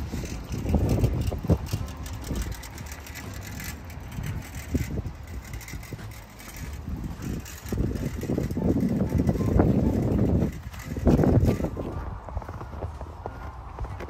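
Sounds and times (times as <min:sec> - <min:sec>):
car engine and tyres rumble: 0:00.0 - 0:14.0.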